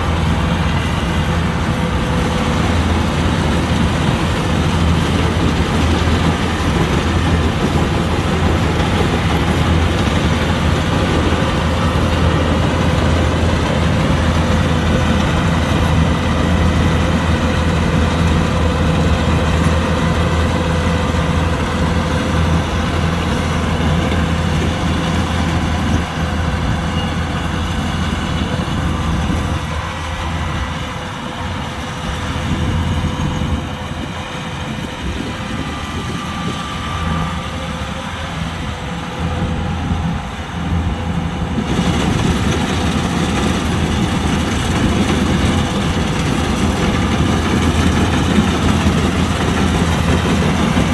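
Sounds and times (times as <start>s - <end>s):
combine harvester engine drone: 0.0s - 50.9s
threshing machinery whine: 0.0s - 50.9s.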